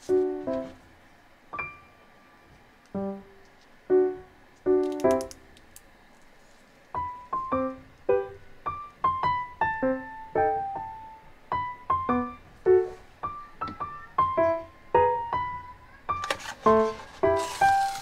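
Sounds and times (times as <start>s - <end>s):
light piano melody: 0.0s - 5.6s, 6.9s - 18.0s.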